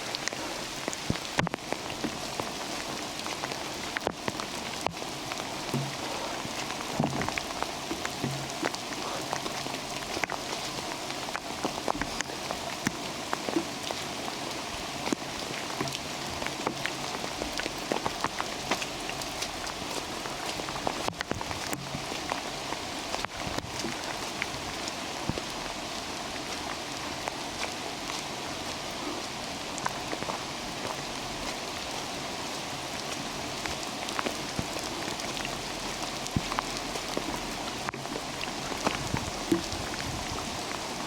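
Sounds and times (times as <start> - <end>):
raindrops clicking: 0.0 - 28.3, 33.0 - 41.0
rain hissing: 0.0 - 41.0.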